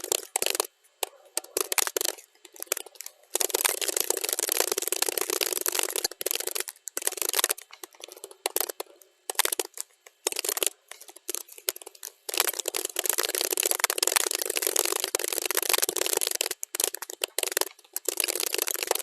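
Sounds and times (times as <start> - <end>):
computer keyboard typing: 0.0 - 19.0.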